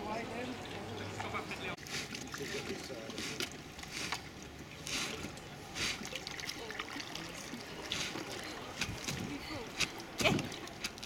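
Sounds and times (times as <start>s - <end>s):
water splashes: 0.0s - 11.0s
water lapping against hulls: 0.4s - 11.0s
kayak paddles dipping and dripping: 0.5s - 11.0s.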